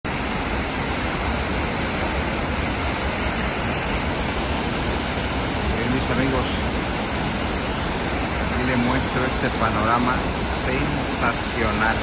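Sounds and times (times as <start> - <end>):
waterfall rushing: 0.1 - 12.0.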